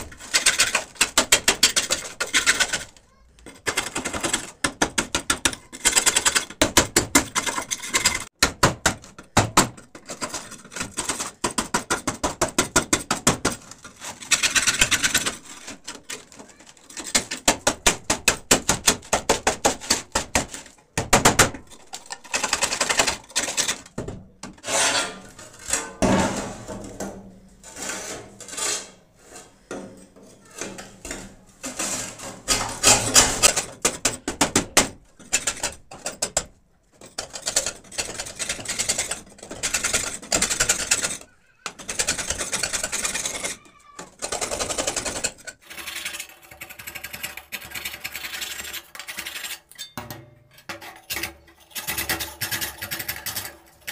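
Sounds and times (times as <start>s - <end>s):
metal scraper scraping rust: 0.0s - 8.4s, 9.8s - 36.4s, 37.0s - 53.9s.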